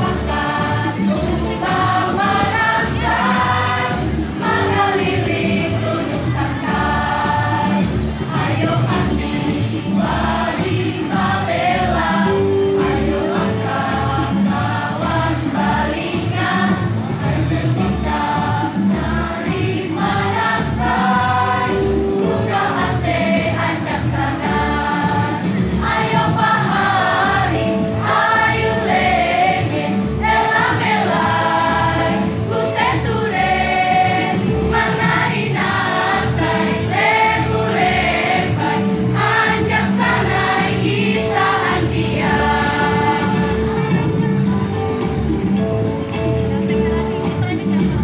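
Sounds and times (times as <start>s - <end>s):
choir singing in parts: 0.0s - 44.8s
electronic keyboard accompaniment: 0.0s - 48.0s.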